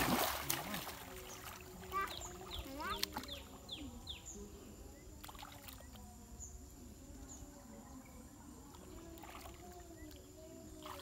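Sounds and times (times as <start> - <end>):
insect noise: 0.0 - 11.0.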